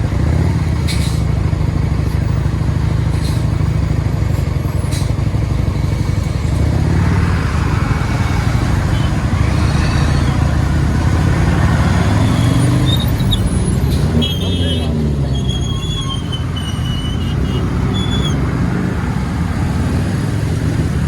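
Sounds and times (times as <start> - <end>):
motorcycle engine rumble: 0.0 - 21.0
road and traffic noise: 0.0 - 21.0.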